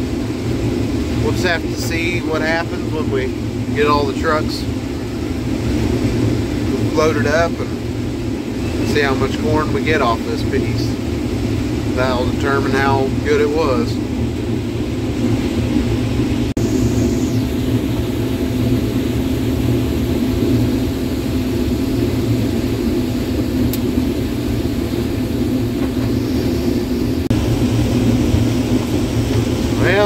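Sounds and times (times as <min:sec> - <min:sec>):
combine harvester droning: 0:00.0 - 0:30.0.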